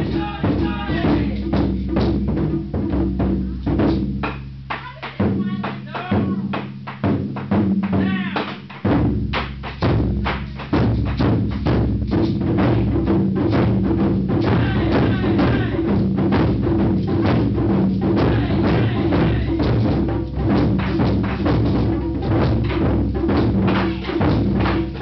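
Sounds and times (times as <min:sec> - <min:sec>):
large drum struck hard: 0:00.0 - 0:25.0.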